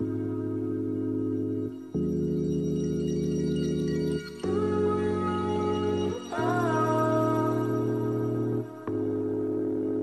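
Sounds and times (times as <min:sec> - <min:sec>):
soft ambient music: 0:00.0 - 0:10.0.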